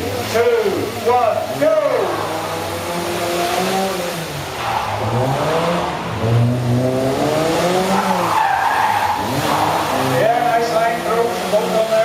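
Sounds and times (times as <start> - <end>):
car engines accelerating hard: 0.0 - 12.0.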